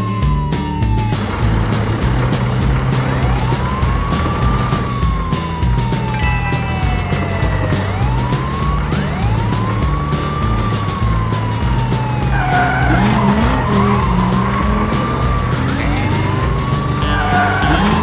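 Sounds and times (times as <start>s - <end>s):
background music bass line: 0.0s - 18.0s
police siren wailing: 0.0s - 18.0s.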